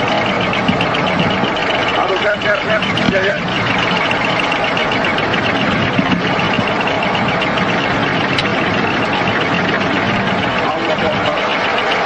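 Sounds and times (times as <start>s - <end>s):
warning alarm high tone: 0.0s - 12.0s.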